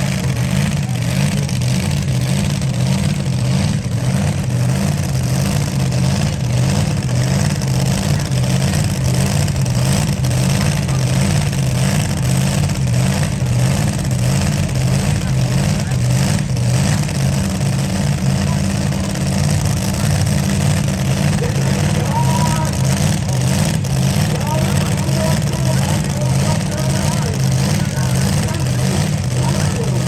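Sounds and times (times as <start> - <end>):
truck engine running hard: 0.0 - 30.0.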